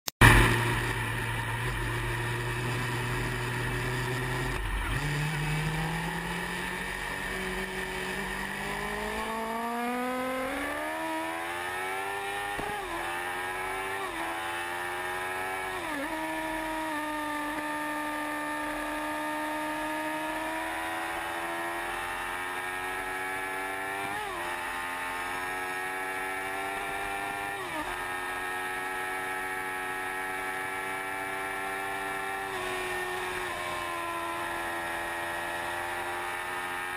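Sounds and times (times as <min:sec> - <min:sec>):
motorcycle engine accelerating hard: 0:00.2 - 0:36.9.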